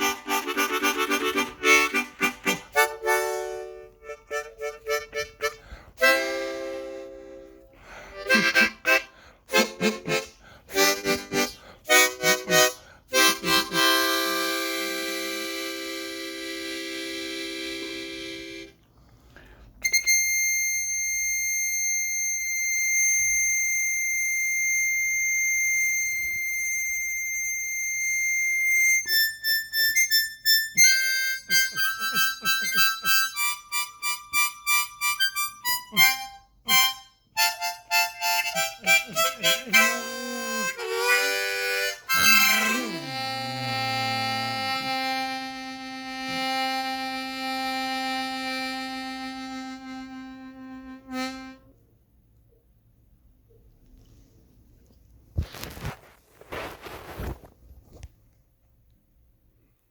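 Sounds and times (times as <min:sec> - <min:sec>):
harmonica playing: 0:00.0 - 0:18.8, 0:19.8 - 0:51.8.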